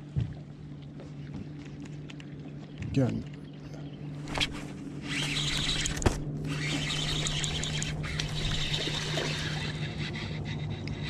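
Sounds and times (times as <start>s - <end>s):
steady low hum: 0.0s - 11.0s
water trickling and lapping: 0.0s - 11.0s.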